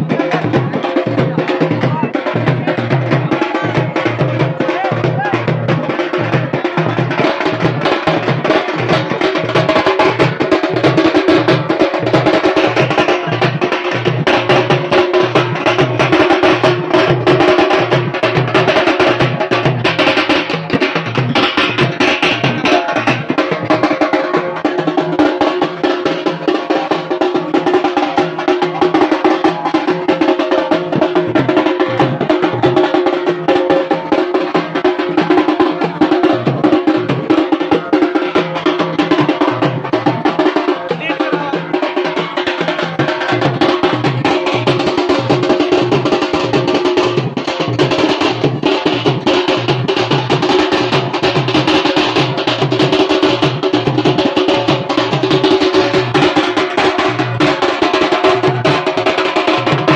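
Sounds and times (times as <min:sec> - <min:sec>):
drums beaten with sticks: 0:00.0 - 0:59.9.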